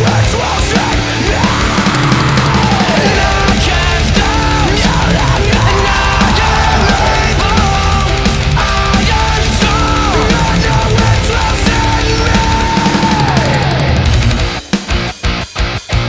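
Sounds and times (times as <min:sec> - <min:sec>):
heavy metal music: 0:00.0 - 0:16.0.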